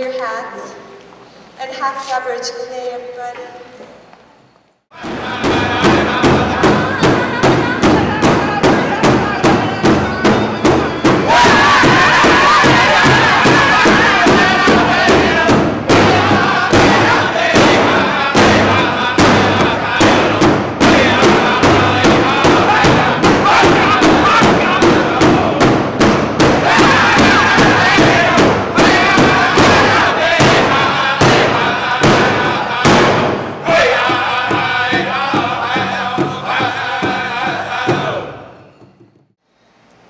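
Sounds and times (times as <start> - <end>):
men singing together: 4.9 - 25.8, 26.4 - 38.7
large drum steady beat: 4.9 - 38.3.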